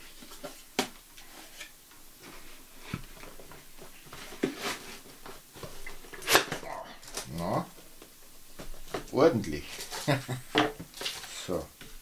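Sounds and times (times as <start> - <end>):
cardboard rustling and scraping: 0.0 - 7.7, 8.5 - 11.7.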